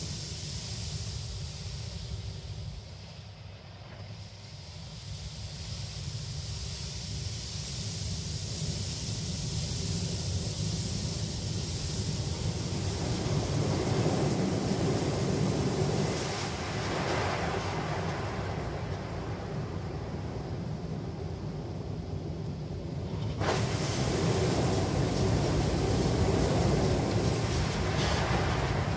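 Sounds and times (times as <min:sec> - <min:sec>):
water spraying: 0:00.0 - 0:03.2, 0:04.3 - 0:20.2, 0:23.3 - 0:28.9.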